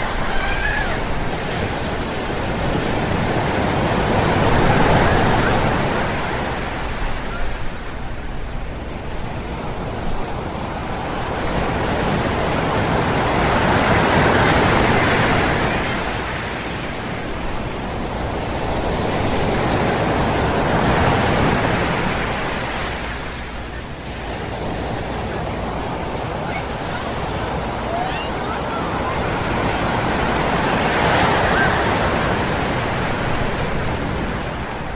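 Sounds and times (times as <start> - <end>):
ocean surf breaking on beach: 0.0 - 34.9.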